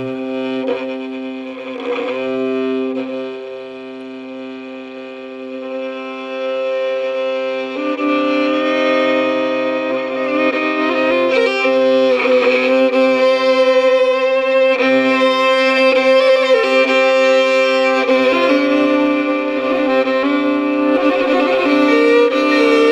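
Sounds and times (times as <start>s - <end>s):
solo fiddle melody over drone: 0.0s - 22.9s.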